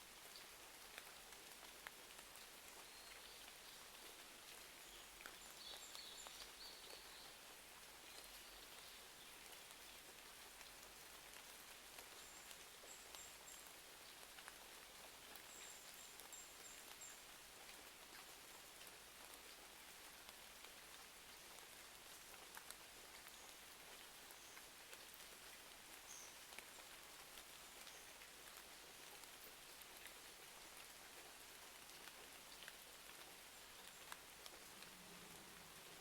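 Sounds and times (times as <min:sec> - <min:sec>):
rain patter: 0:00.0 - 0:36.0.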